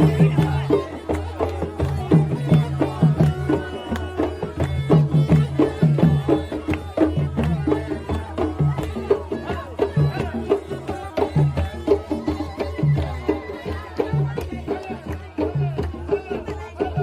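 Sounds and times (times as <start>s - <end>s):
hand drum beat: 0.0s - 17.0s.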